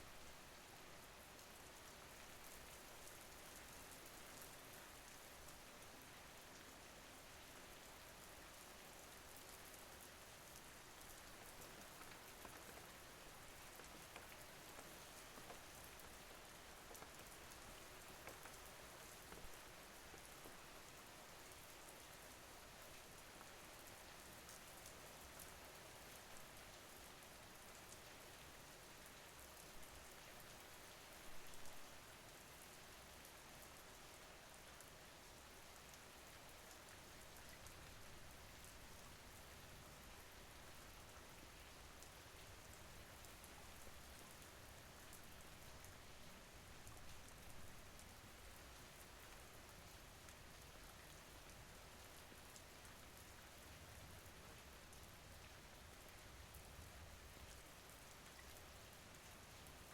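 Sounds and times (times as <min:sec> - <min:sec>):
faint raindrop ticks: 0:00.0 - 0:59.9
soft rain falling: 0:00.0 - 0:59.9.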